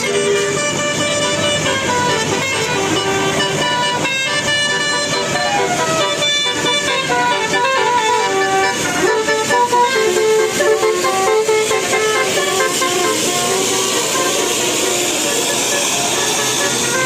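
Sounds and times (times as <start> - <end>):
bus musical horn tune: 0.0 - 17.0.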